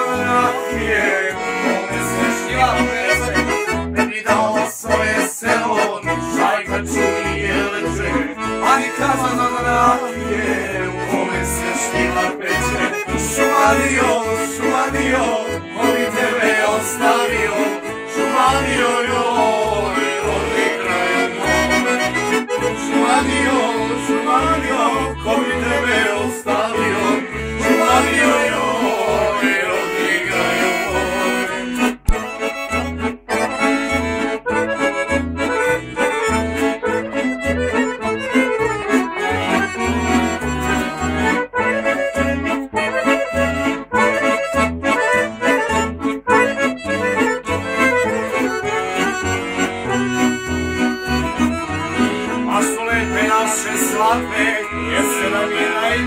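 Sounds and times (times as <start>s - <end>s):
accordions playing folk tune: 0.0s - 56.0s.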